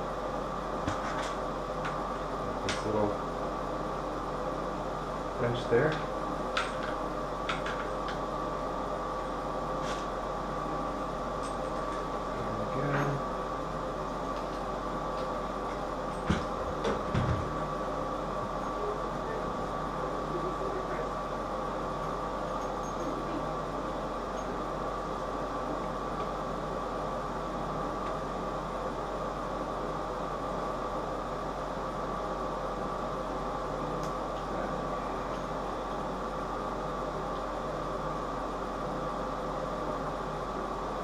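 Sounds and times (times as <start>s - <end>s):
background hum with faint whine: 0.0s - 41.0s.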